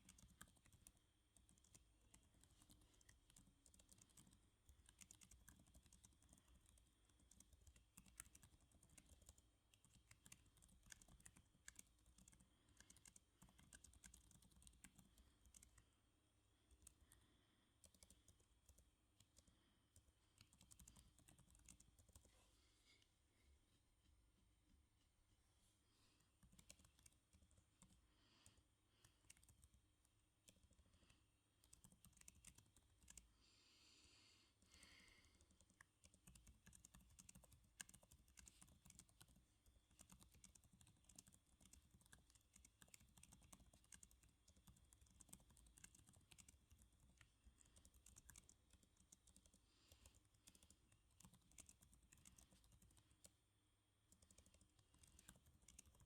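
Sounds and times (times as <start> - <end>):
computer keyboard typing: 0.0 - 16.0, 16.6 - 22.3, 26.4 - 33.3, 34.6 - 53.4, 54.0 - 56.0.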